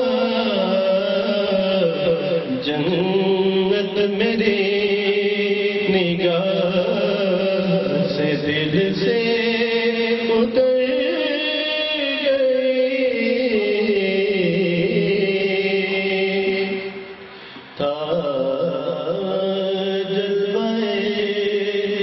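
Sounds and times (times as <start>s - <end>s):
man singing long held notes: 0.0s - 22.0s.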